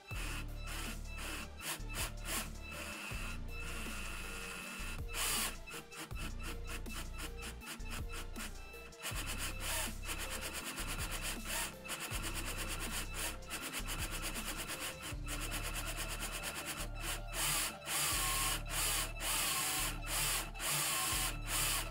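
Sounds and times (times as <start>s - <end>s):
toy motors whirring: 0.0s - 21.9s.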